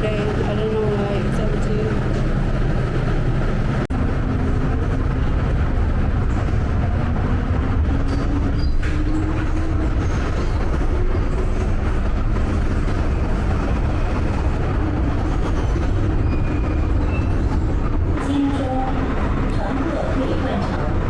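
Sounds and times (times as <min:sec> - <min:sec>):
underground train rumbling: 0:00.0 - 0:21.0.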